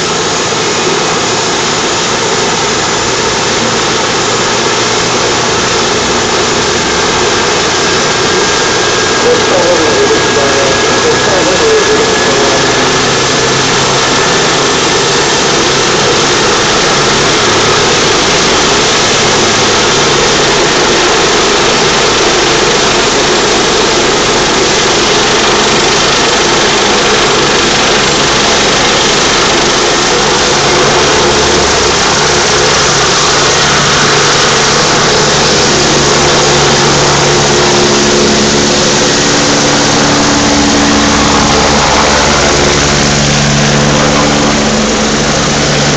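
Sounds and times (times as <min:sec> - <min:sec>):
helicopter turbine and rotor noise: 0:00.0 - 0:45.9
low multi-tone hum: 0:00.0 - 0:45.9.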